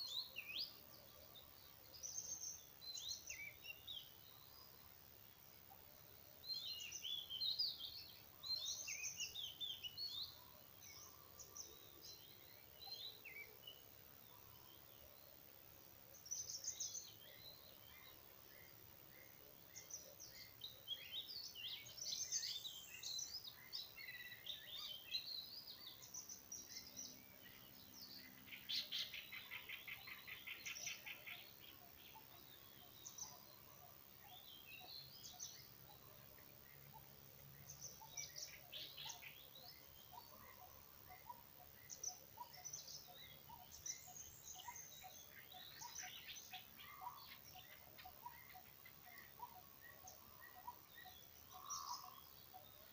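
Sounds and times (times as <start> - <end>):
songbirds chirping faintly: 0.0 - 52.9.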